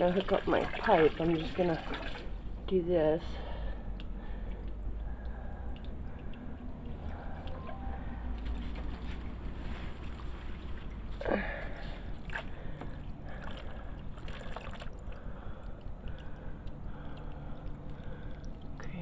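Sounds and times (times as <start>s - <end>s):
water splashes: 0.0s - 19.0s
water trickling and gurgling: 0.0s - 19.0s
low hum: 1.9s - 19.0s.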